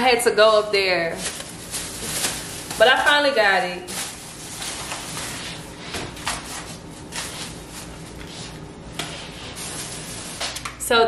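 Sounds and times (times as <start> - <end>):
plastic bag rustling: 0.5 - 10.6.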